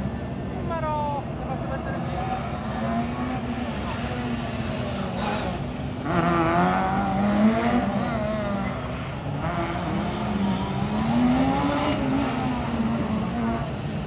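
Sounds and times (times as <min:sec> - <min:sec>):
rally car engine revving: 0:01.8 - 0:14.0.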